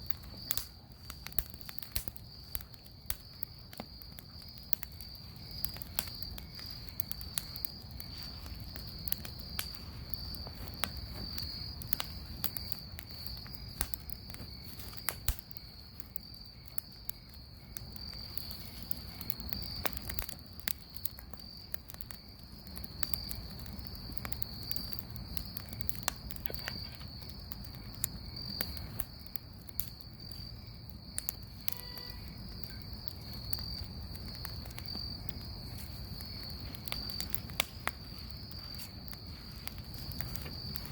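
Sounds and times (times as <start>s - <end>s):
bonfire crackling and popping: 0.0s - 40.9s
crickets chirring: 0.0s - 40.9s.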